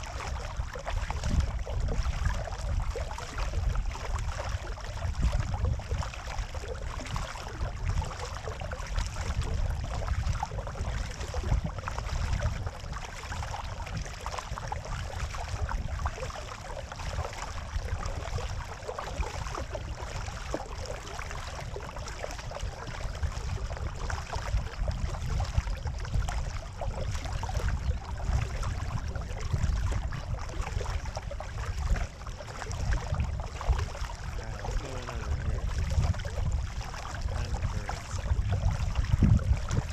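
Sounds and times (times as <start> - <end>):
paddle strokes in water: 0.0 - 39.9
water splashing along kayak hull: 0.0 - 39.9
wind rumble on microphone: 0.0 - 39.9.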